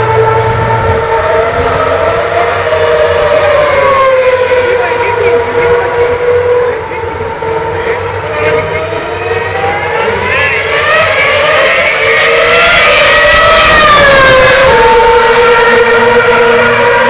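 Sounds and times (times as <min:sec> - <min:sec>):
racing car engine high note: 0:00.0 - 0:17.0
racing car engine rising in pitch: 0:00.0 - 0:17.0.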